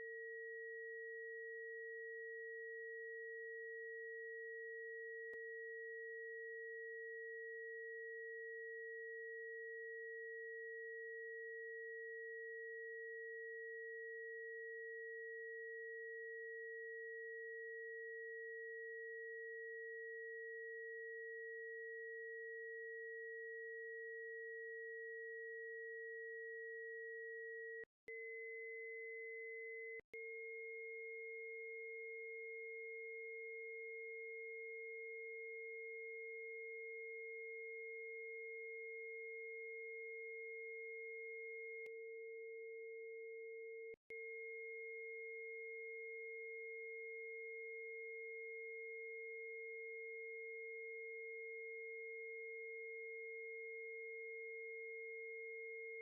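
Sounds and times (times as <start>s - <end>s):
high sine tone: 0.0s - 56.0s
low sine tone: 0.0s - 56.0s.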